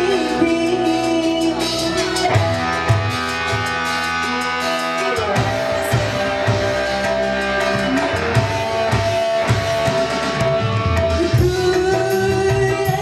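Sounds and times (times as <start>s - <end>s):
guitar: 0.0s - 13.0s
hand drums: 0.0s - 13.0s
keyboard: 0.0s - 13.0s.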